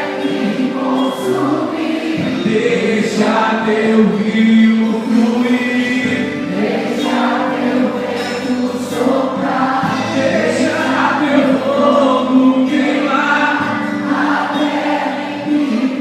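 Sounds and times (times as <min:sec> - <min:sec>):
choir singing worship music: 0:00.0 - 0:16.0.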